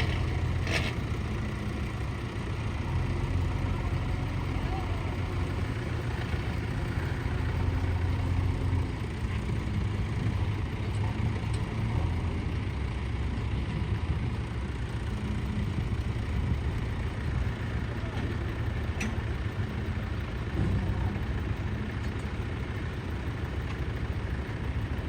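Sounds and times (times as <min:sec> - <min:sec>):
heavy diesel engine rumbling: 0:00.0 - 0:25.0.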